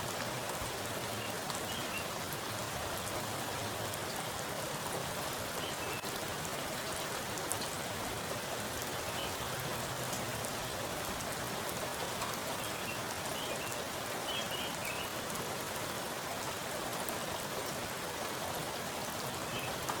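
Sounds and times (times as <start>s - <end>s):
heavy rain on water: 0.0s - 20.0s.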